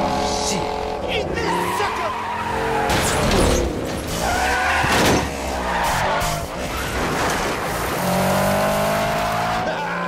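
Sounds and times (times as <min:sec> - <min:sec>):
race car engines revving: 0:00.0 - 0:10.0
tyres squealing and skidding: 0:00.6 - 0:10.0.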